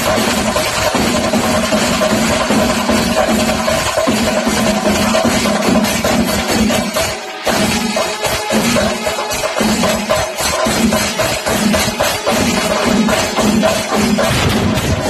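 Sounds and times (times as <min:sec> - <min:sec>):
cymbals: 0:00.0 - 0:15.0
drums beaten with sticks: 0:00.0 - 0:15.0.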